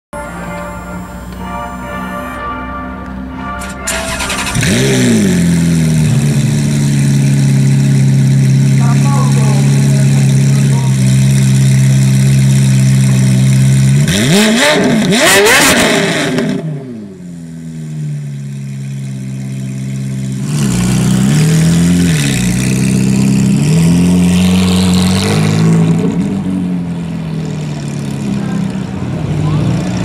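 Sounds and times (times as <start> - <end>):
sports car engine revving: 3.6 - 30.0.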